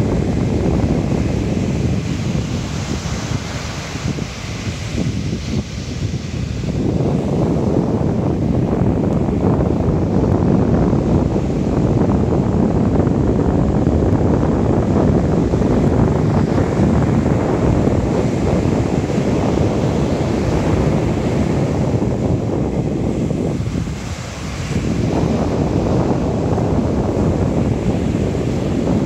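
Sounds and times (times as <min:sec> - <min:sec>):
ocean surf breaking: 0:00.0 - 0:29.0
wind buffeting microphone: 0:00.0 - 0:29.0.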